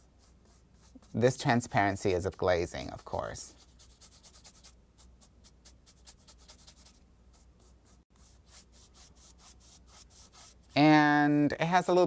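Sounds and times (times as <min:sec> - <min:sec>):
paintbrush strokes on canvas: 0:00.0 - 0:10.8.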